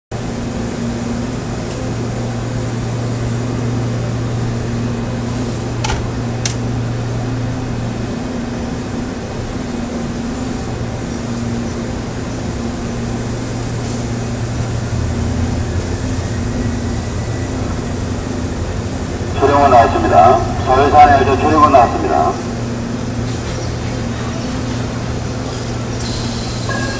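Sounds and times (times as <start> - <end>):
train air-conditioning humming: 0.2 - 26.9.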